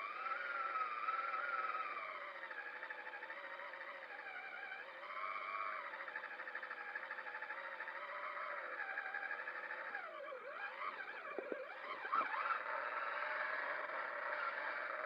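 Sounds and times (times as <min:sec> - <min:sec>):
rc truck motor and gear whine: 0:00.0 - 0:15.0.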